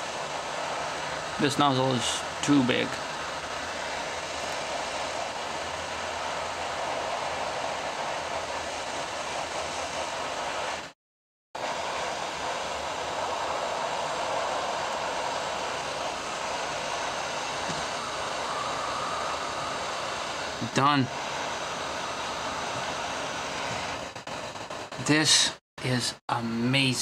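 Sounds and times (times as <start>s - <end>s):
hot air nozzle hissing: 0.0s - 11.0s, 11.6s - 25.5s.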